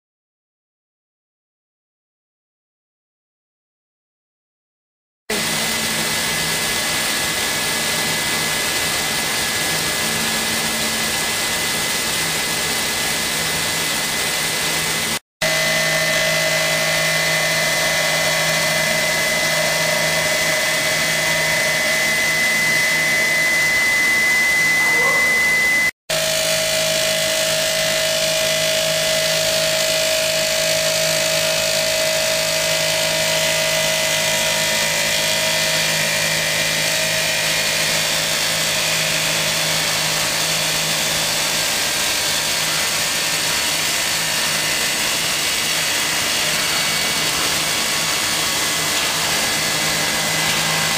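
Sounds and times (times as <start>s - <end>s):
cnc machine whining: 5.3s - 50.9s.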